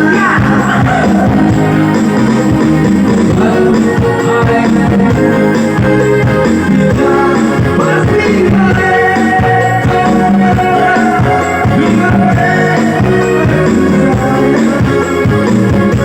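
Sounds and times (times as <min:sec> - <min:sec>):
loud music with singing and guitar: 0:00.0 - 0:16.0.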